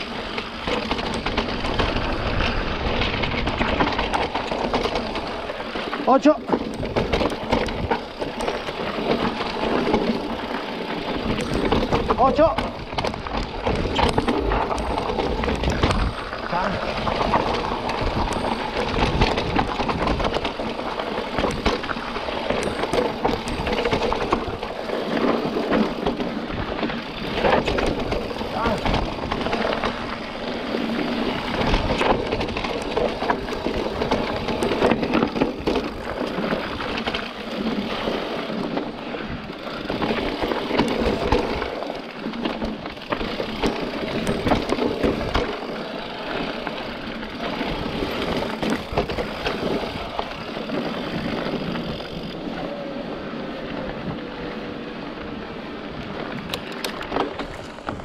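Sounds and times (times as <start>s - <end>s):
bike rattling and knocking: 0.0s - 58.0s.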